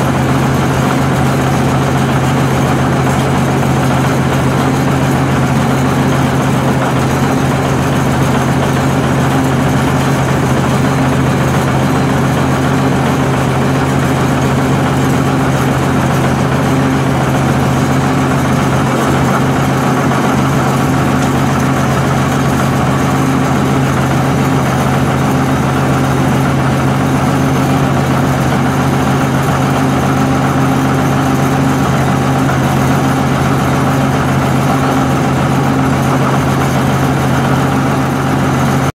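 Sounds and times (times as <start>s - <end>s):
bulldozer diesel engine idling: 0.0s - 38.9s.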